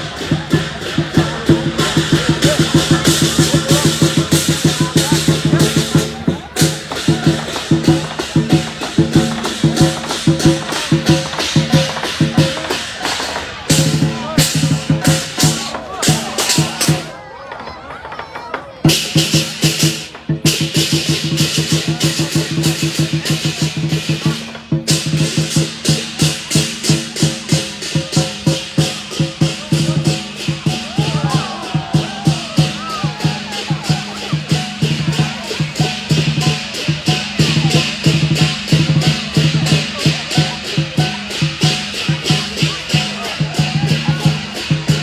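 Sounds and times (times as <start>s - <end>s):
cymbals clashing: 0.0s - 17.2s, 18.9s - 45.0s
large drum beating: 0.0s - 17.2s, 18.0s - 45.0s.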